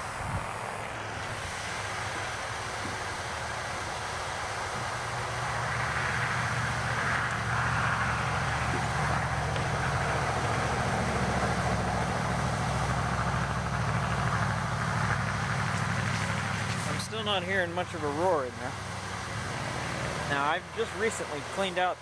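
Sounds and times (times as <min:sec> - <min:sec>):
electric blowers whooshing: 0:00.0 - 0:21.9.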